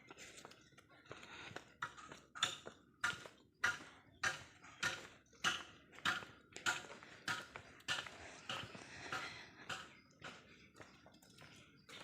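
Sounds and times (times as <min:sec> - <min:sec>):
scuffing footsteps: 0:00.0 - 0:12.0.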